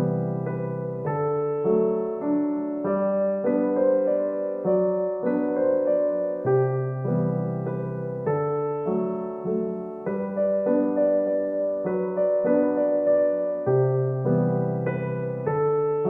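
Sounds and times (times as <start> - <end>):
gentle piano tune with bass: 0.0 - 16.0.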